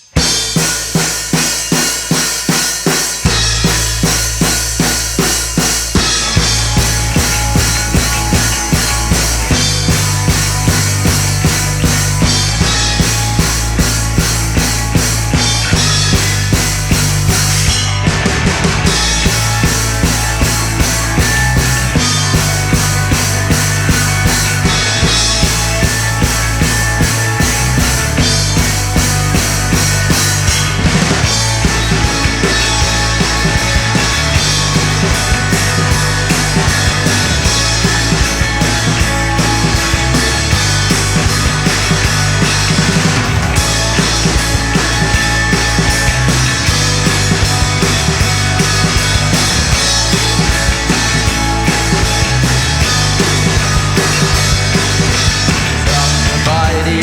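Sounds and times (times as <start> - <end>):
drum kit beat: 0.0 - 57.0
rock band playing live: 0.0 - 57.0.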